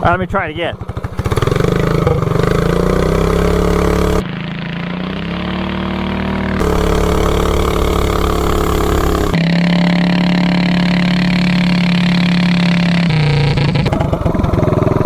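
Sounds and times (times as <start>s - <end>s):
minibike engine accelerating: 0.7s - 15.0s.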